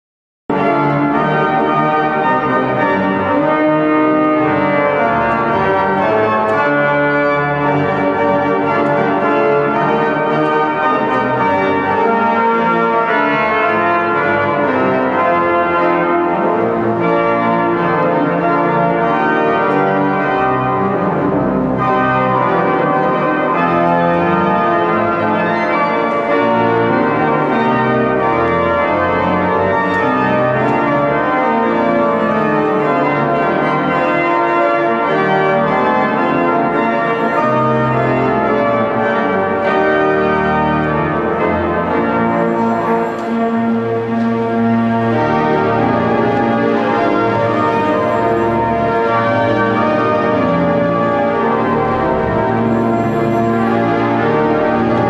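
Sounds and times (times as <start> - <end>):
pipe organ playing loud chords: 0.5 - 55.0.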